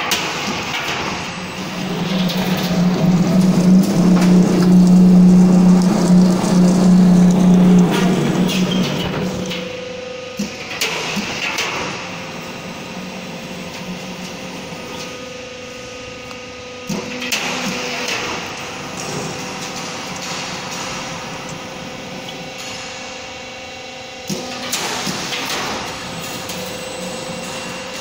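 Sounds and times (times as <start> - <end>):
roll forming machine hum: 0.0 - 28.0.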